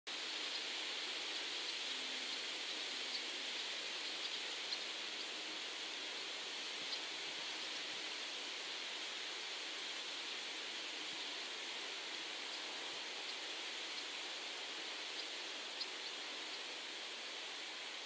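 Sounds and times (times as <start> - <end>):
steady outdoor hiss: 0.1 - 18.0.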